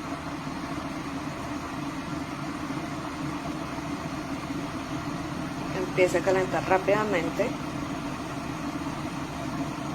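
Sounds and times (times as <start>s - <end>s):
electric kettle heating water: 0.0s - 9.9s.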